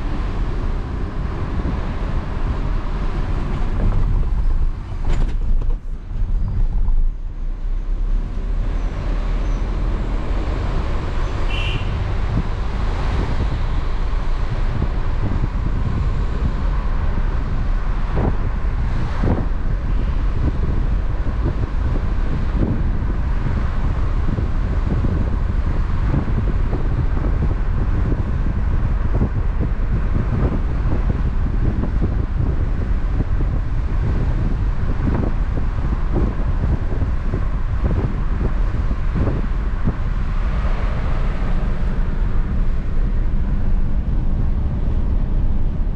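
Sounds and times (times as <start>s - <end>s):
tyre and road rumble: 0.0s - 45.9s
wind noise: 0.0s - 45.9s.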